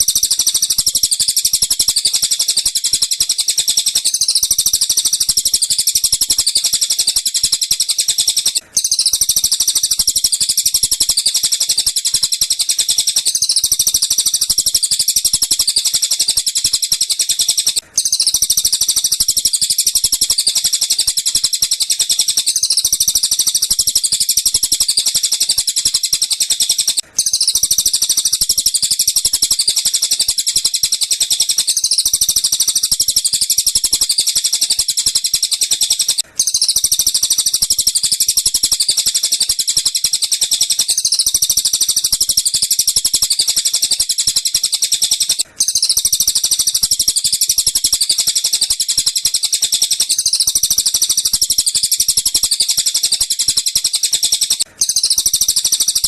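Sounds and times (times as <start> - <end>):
high-pitched bird chattering trills: 0.0 - 56.0.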